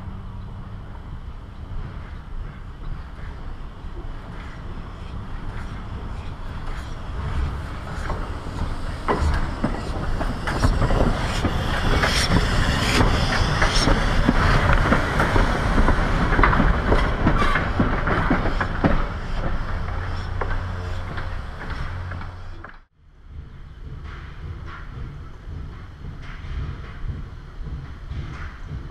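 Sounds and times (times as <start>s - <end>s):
steam train rolling past: 0.0s - 28.9s
wheels clattering over rails: 1.6s - 28.9s.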